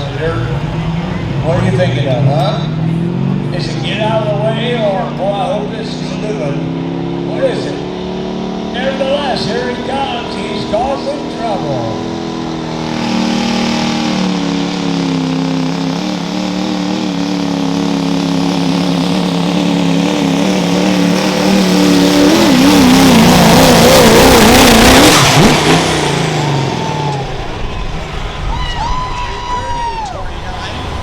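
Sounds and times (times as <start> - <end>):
diesel truck engine at full power: 0.0 - 31.0.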